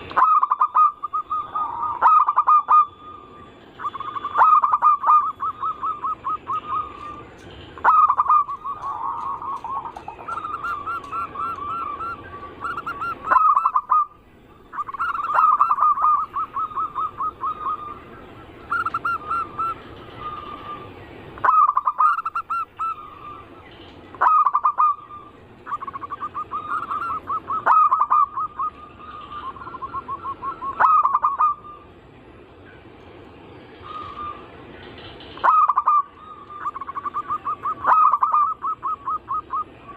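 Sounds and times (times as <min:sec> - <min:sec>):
doves cooing: 0:00.0 - 0:31.9, 0:33.7 - 0:39.9.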